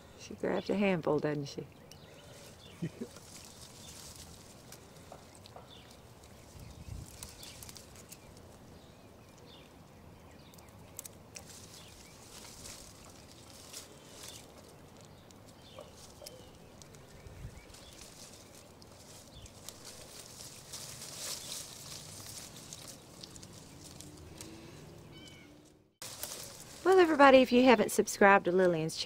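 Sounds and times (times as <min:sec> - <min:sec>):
foliage rustling and crackling: 0:01.8 - 0:29.0.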